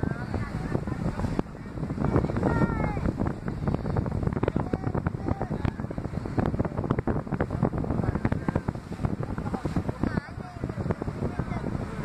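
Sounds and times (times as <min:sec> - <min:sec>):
faint indistinct voices: 0:00.0 - 0:12.0
heavy low rumble: 0:00.0 - 0:12.0
sea wash: 0:00.0 - 0:12.0
wind buffeting microphone: 0:00.0 - 0:12.0.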